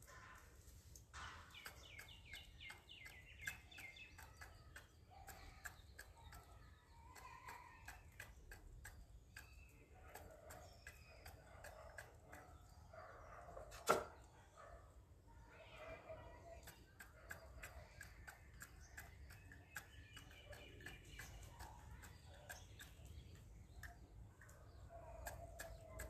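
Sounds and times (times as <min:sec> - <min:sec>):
beaks pecking on hard surface: 0:00.0 - 0:14.3, 0:15.8 - 0:26.0
birds chirping: 0:00.0 - 0:26.0.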